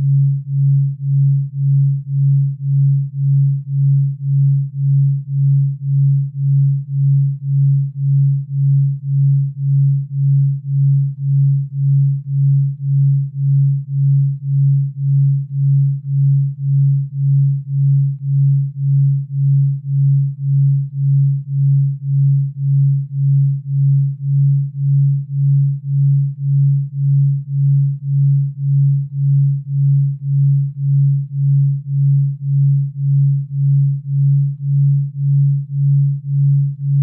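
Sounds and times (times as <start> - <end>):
pulsing low sine tone: 0.0 - 37.0.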